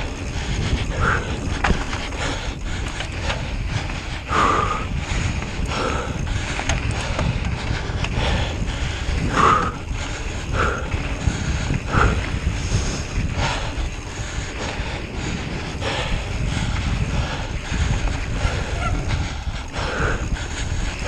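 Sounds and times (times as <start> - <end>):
bicycle mechanical clicking: 0.0 - 21.0
heavy laboured breathing: 0.0 - 21.0
wind on microphone: 0.0 - 21.0.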